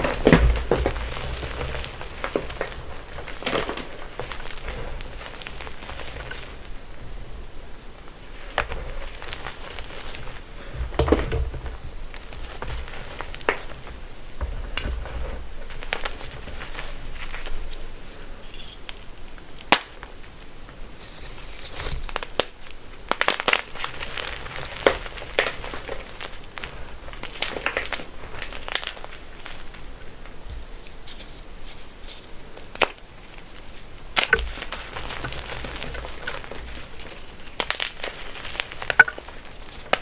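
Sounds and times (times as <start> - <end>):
chalk crushing and crackling: 0.0 - 7.2, 7.8 - 40.0.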